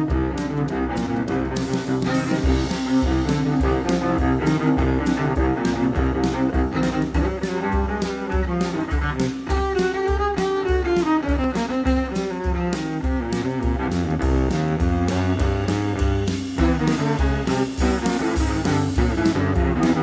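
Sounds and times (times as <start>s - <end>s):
cello melody: 0.0s - 20.0s
low steady beat: 0.0s - 20.0s.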